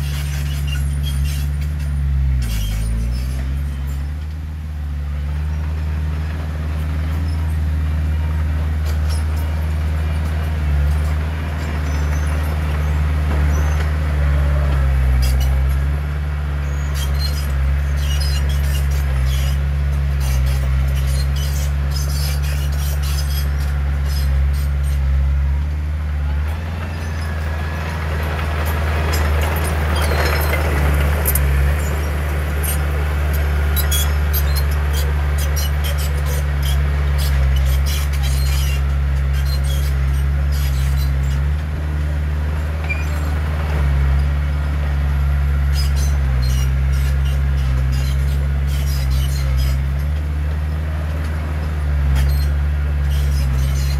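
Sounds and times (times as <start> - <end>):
heavy diesel machinery engine drone: 0.0 - 53.9.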